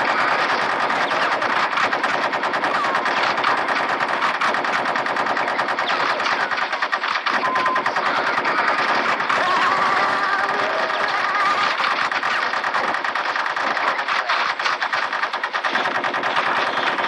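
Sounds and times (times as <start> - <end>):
rapid machine-gun fire: 0.0 - 17.0.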